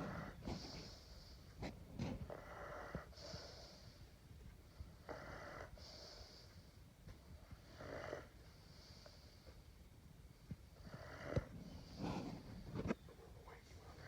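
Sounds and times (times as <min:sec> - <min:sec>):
dog snoring: 0:00.0 - 0:04.0, 0:04.8 - 0:06.7, 0:07.4 - 0:09.6, 0:10.7 - 0:14.0
soft hissing breath: 0:00.0 - 0:14.0.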